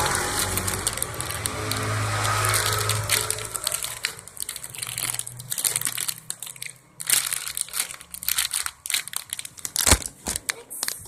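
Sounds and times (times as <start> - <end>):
plastic crinkling and clicking: 0.0 - 11.0.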